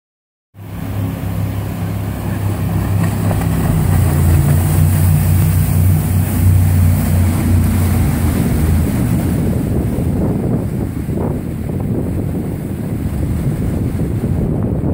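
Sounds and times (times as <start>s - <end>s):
jet boat engine humming: 0.6s - 14.9s
rushing water: 0.6s - 14.9s
wind on microphone: 0.7s - 14.9s.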